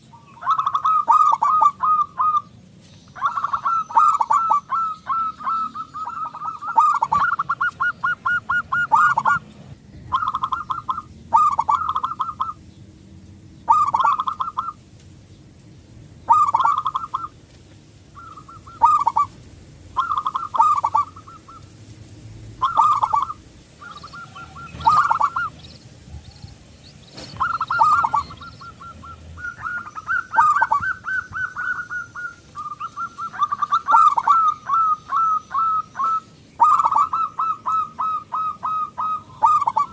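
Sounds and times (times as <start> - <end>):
dove cooing: 0.0 - 2.6, 3.2 - 12.6, 13.6 - 14.8, 16.3 - 17.4, 18.2 - 21.7, 22.6 - 39.9.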